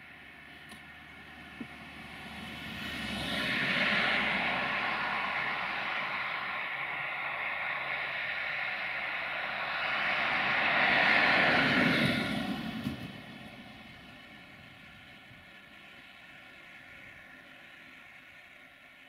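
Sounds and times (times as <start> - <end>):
drone rotors whining: 0.0 - 19.0.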